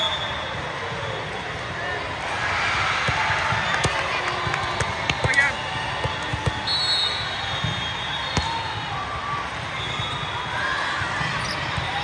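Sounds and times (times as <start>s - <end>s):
crowd chatter: 0.0s - 12.0s.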